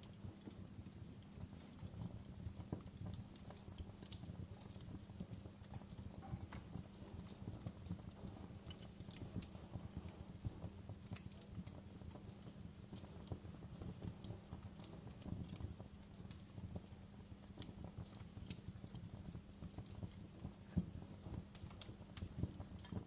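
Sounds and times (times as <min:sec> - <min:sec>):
sharp fire pops: 0:00.0 - 0:23.0
wood fire crackling: 0:00.0 - 0:23.0.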